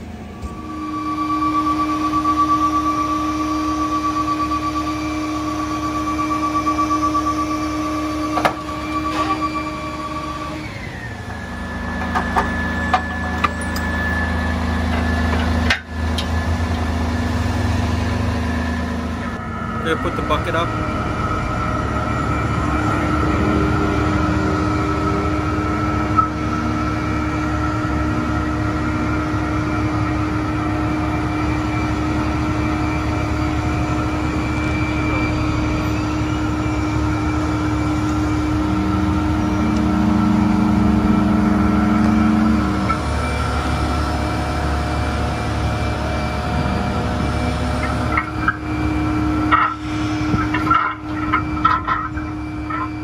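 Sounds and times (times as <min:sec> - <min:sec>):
truck engine running at high idle: 0:00.0 - 0:53.0.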